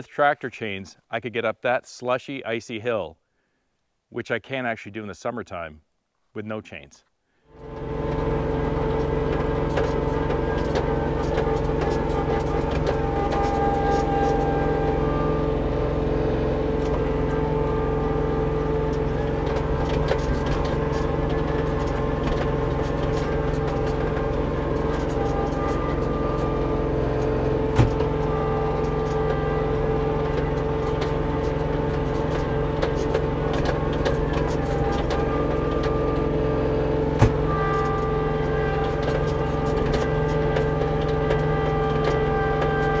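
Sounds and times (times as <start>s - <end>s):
tractor diesel engine running: 7.4s - 43.0s.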